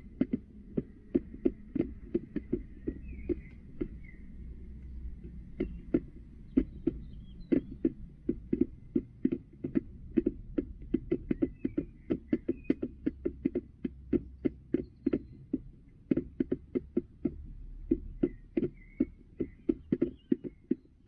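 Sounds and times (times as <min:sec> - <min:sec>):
beak knocking on plastic tray: 0:00.2 - 0:04.2, 0:05.2 - 0:21.0.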